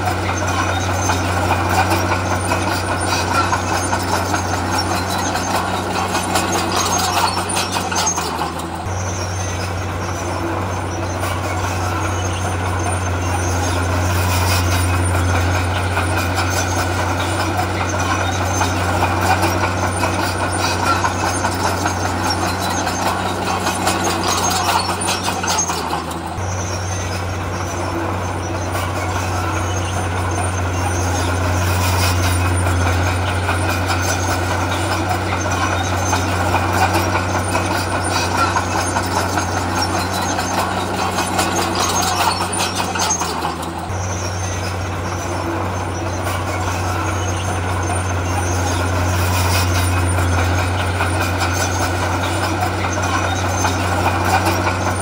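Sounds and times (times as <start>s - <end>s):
clatter: 0.0s - 55.0s
diesel engine running: 0.0s - 55.0s.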